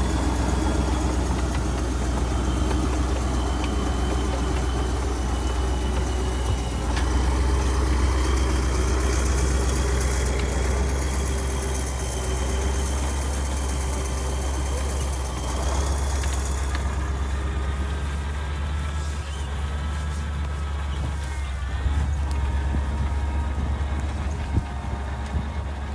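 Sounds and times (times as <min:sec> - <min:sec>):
diesel engine deep rumble: 0:00.0 - 0:25.9
high whine: 0:00.0 - 0:25.9.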